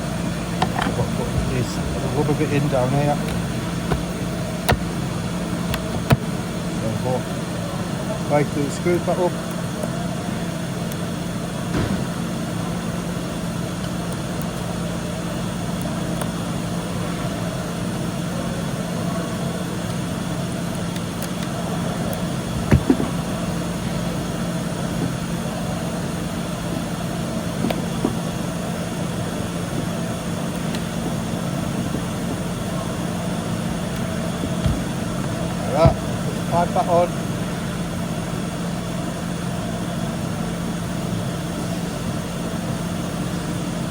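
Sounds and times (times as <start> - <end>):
steady machine hum: 0.0 - 43.9.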